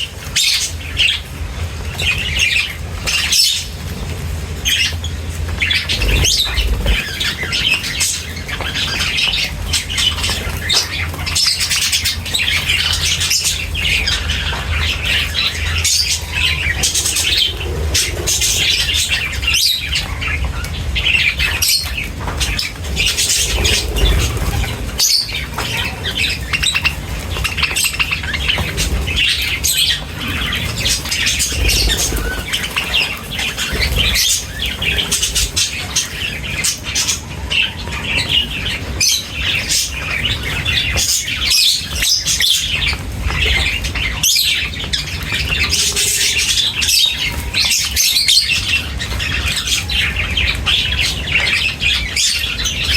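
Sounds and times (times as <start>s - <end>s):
flock of birds chirping: 0.0s - 52.9s.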